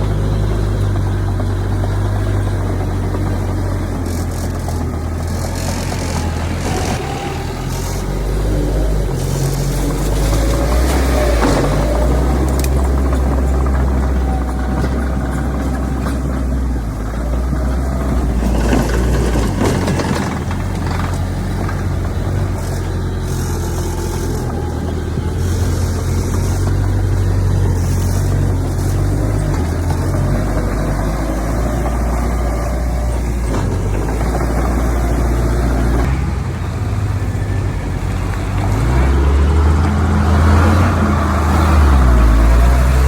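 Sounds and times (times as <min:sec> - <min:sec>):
diesel machinery engine drone: 0:00.0 - 0:43.0.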